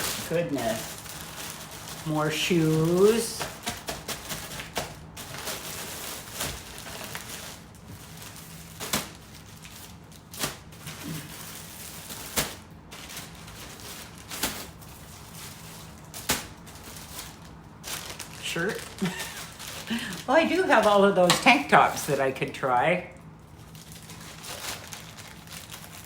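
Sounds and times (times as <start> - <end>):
faint steady hum: 0.0 - 26.0
plastic packaging crackling: 0.0 - 26.0.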